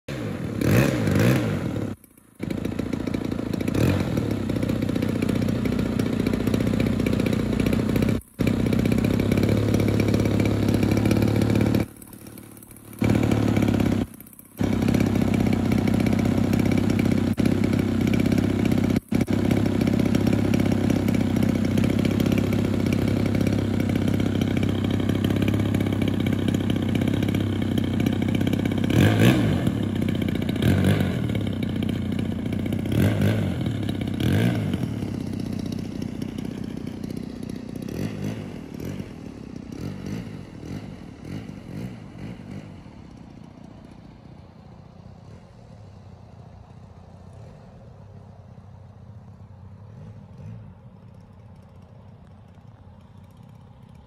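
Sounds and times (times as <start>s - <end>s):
model plane engine droning: 0.1s - 54.0s.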